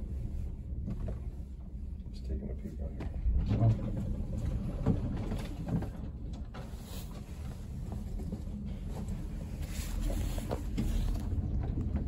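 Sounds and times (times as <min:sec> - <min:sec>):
elevator car rumble: 0:00.0 - 0:12.0.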